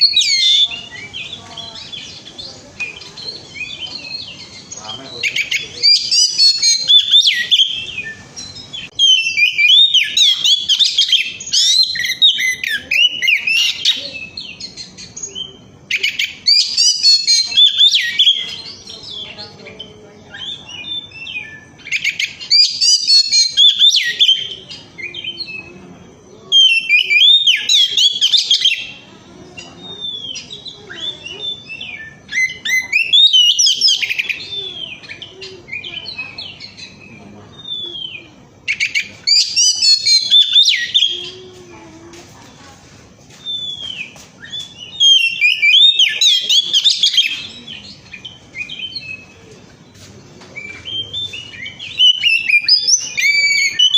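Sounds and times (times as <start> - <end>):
magpie-robin singing whistled phrases: 0.0 - 25.8, 26.5 - 41.4, 43.4 - 49.4, 50.6 - 53.9
soft bird twittering: 0.0 - 53.9.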